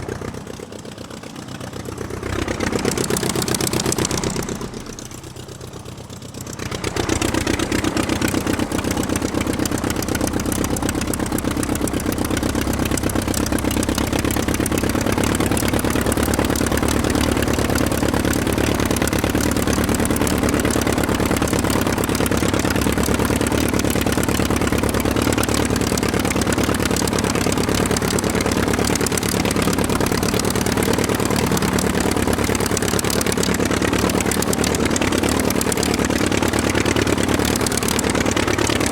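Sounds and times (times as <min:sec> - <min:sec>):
engine-like pulsing drone: 0:00.0 - 0:38.9.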